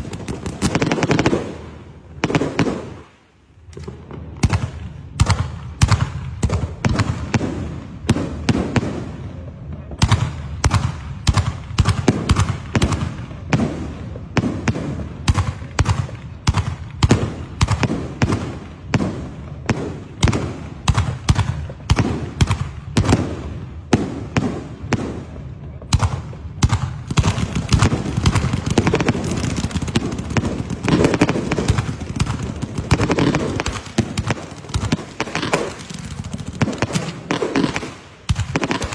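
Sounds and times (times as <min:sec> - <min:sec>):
fireworks banging: 0:00.0 - 0:38.9.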